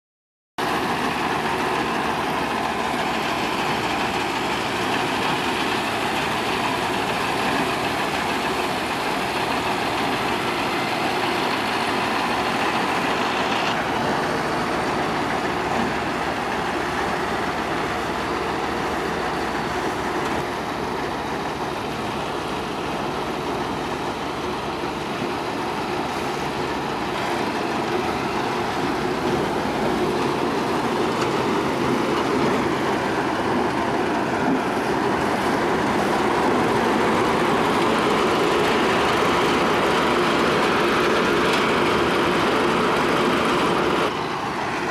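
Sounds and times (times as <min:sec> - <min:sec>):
combine harvester running: 0:00.6 - 0:44.9.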